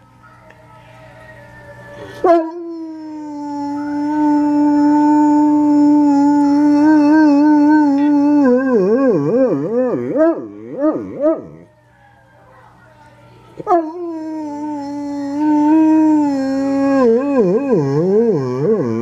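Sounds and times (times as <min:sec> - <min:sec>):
dog howling: 0:00.1 - 0:12.8, 0:13.6 - 0:19.0.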